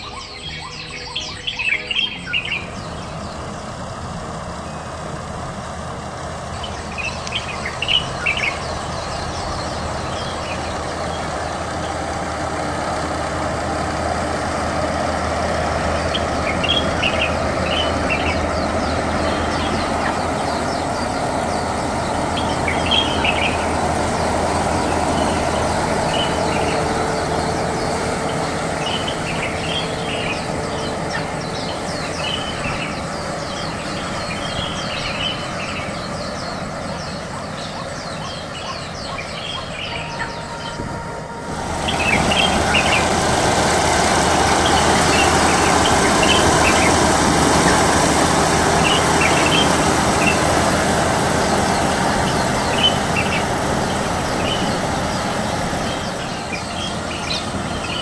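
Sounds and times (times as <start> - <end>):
small birds chirping: 0.0 - 13.0, 15.5 - 58.0
combine harvester drone: 0.0 - 58.0.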